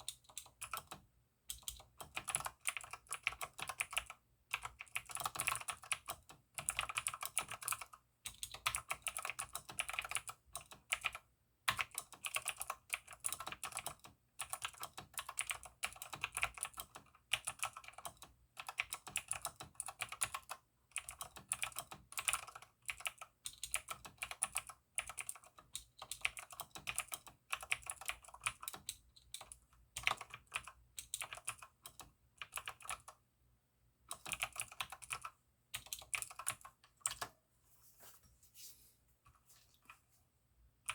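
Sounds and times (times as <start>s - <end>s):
mechanical keyboard clicky typing: 0.0s - 33.2s, 34.1s - 37.3s.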